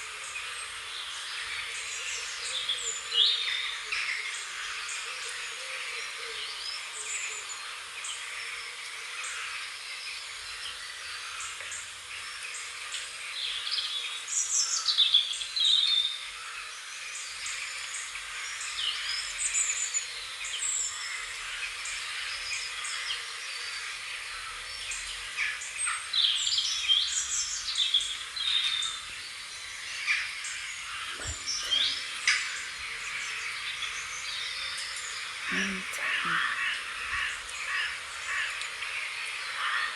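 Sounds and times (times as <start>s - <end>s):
outdoor background hiss: 0.0s - 39.9s
birds singing and calling: 0.2s - 39.9s.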